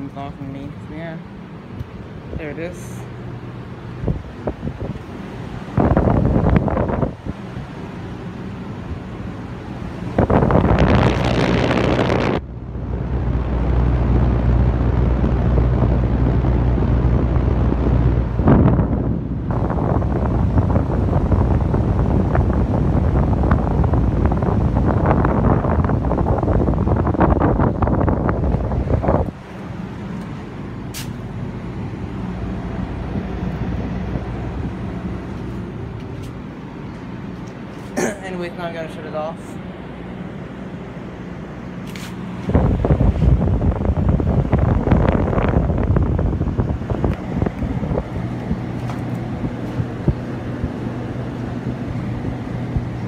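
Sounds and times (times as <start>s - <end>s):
air conditioner unit humming: 0.0s - 53.0s
fan rushing: 0.0s - 53.0s
wind noise on microphone: 3.8s - 36.6s, 41.9s - 53.0s.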